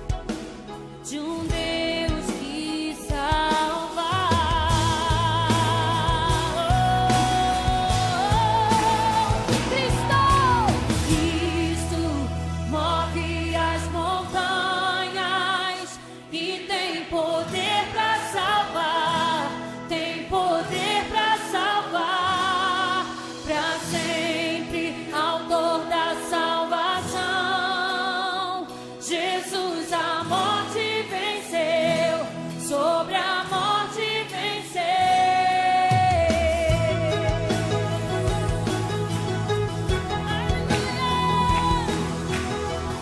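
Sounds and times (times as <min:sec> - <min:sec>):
gospel song with singing voices: 0:00.0 - 0:43.0.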